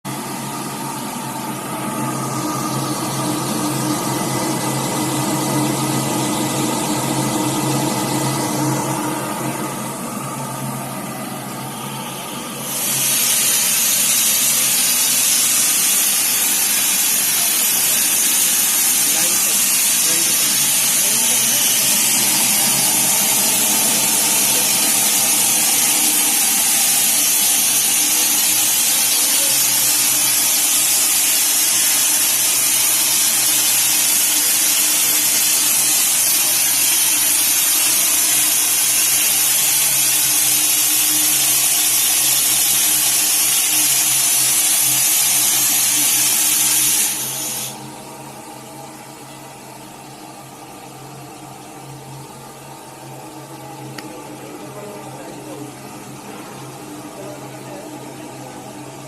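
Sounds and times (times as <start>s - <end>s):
steam hissing from boiler: 0.1s - 48.0s.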